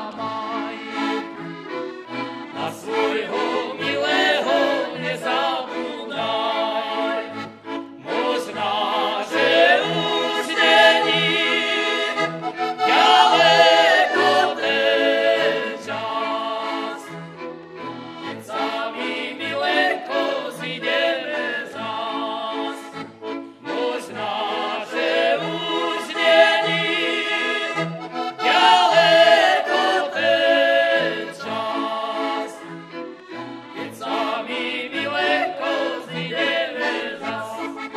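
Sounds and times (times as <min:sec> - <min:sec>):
musicians singing: 0:00.0 - 0:01.2, 0:02.5 - 0:17.2, 0:18.4 - 0:23.0, 0:23.6 - 0:32.8, 0:33.7 - 0:37.9
accordion: 0:00.0 - 0:37.9
folk band playing: 0:00.0 - 0:37.9.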